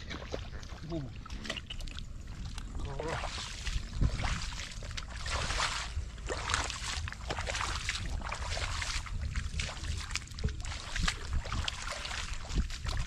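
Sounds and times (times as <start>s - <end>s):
feet splashing through muddy water: 0.0s - 13.0s.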